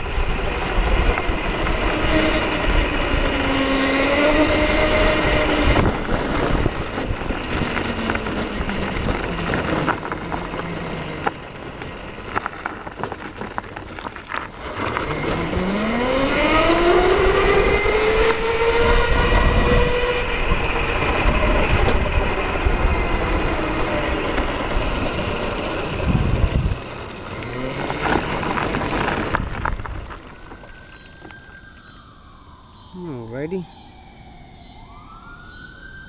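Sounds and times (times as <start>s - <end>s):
electric motors whining: 0.0s - 36.0s
wind and road noise: 0.0s - 36.0s.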